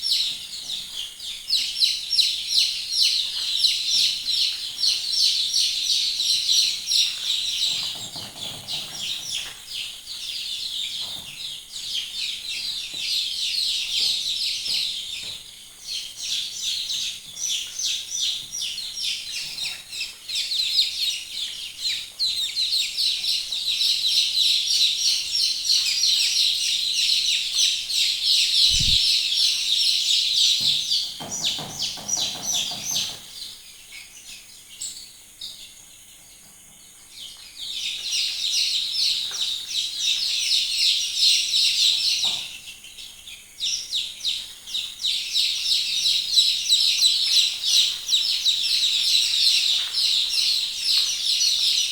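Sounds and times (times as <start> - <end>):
chicks peeping: 0.0 - 51.9.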